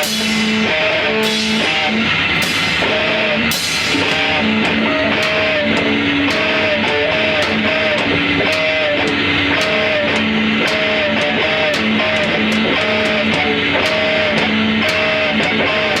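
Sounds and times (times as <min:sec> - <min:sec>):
cymbal hits: 0:00.0 - 0:16.0
drums: 0:00.0 - 0:16.0
electric guitar figure: 0:00.0 - 0:16.0.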